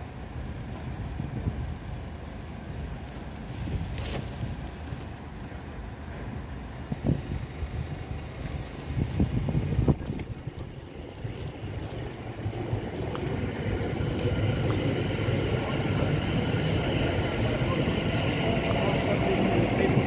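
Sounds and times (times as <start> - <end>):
train rumbling past: 0.0 - 20.0
wind buffeting microphone: 0.1 - 5.0, 6.3 - 20.0.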